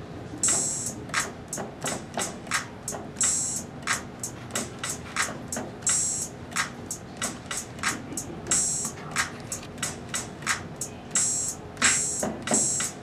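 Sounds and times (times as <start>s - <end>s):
electronic drum beat: 0.4s - 13.0s.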